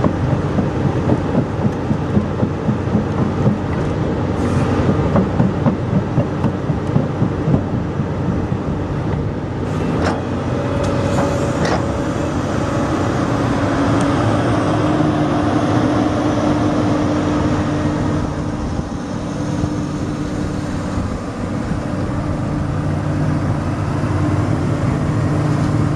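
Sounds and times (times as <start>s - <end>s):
excavator diesel engine running: 0.0s - 25.9s
metallic clatter of steel tracks: 0.0s - 25.9s.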